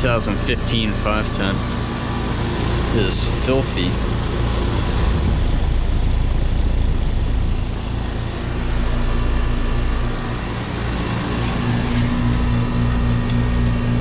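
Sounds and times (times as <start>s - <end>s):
air conditioner compressor and fan: 0.0s - 14.0s
low hum: 0.0s - 14.0s.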